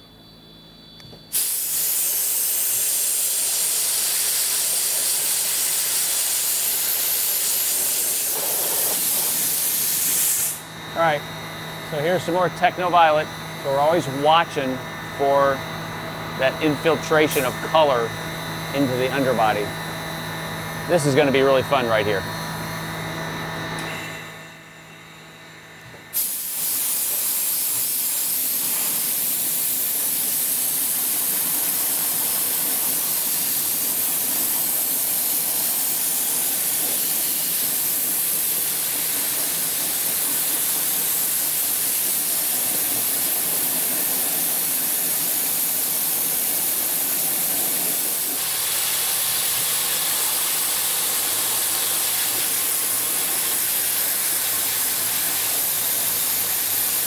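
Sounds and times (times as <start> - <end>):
dry ice blasting gun hissing: 1.3 - 11.2, 11.9 - 22.4, 25.9 - 57.0.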